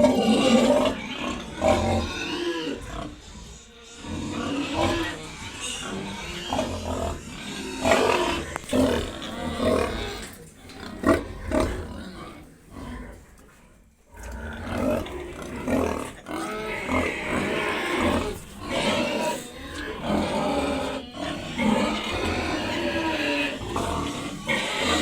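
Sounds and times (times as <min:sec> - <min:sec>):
pigs grunting and squealing: 0:00.0 - 0:25.0.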